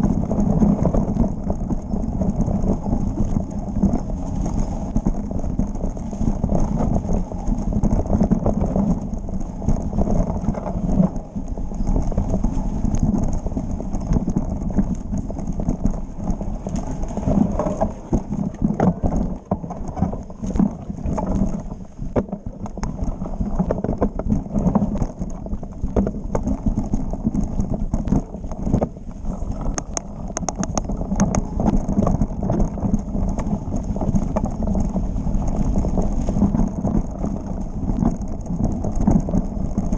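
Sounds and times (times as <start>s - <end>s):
bike rattling on rough trail: 0.0s - 39.9s
low rumble: 0.0s - 39.9s.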